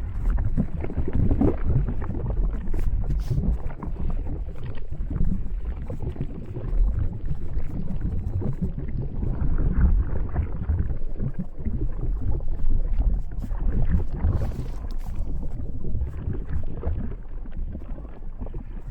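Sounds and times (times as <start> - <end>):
faint crackles: 0.0 - 18.9
lava flow rumbling: 0.0 - 18.9.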